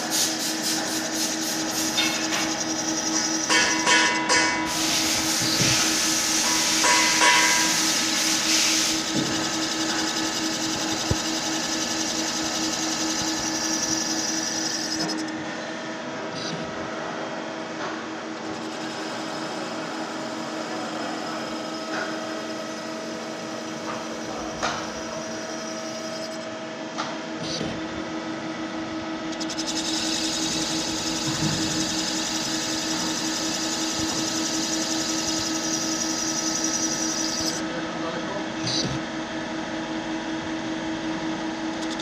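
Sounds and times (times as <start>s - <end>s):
machining machine running: 0.0s - 17.4s, 18.0s - 26.8s, 29.1s - 37.9s.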